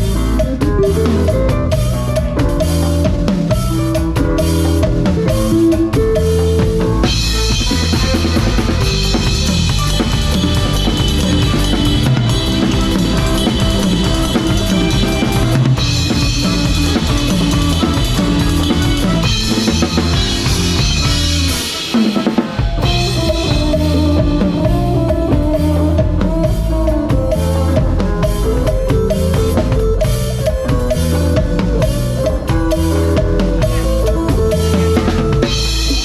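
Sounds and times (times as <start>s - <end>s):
drum kit: 0.0s - 36.0s
live band playing cha-cha: 0.0s - 36.0s.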